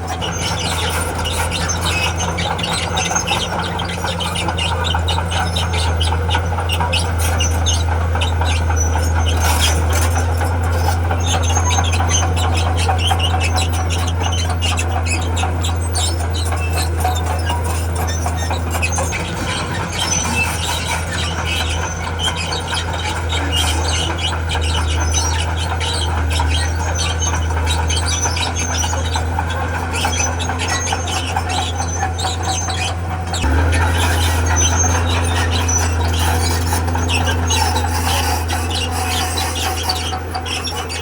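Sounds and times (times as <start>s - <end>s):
diesel engine drone: 0.0s - 41.0s
steel tracks squealing: 0.0s - 41.0s.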